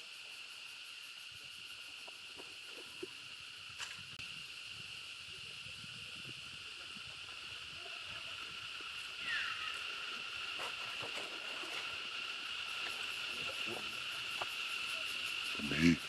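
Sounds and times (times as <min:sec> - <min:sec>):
high insect chorus buzzing: 0:00.0 - 0:16.0.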